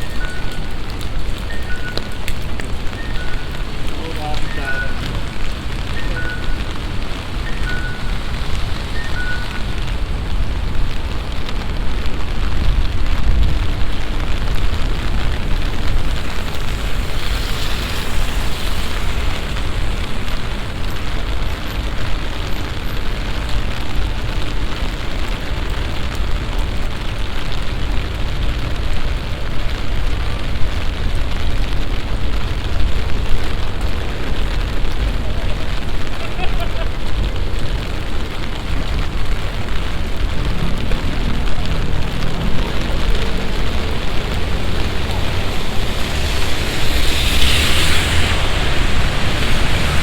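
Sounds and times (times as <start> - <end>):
heavy rain roaring: 0.0 - 50.0.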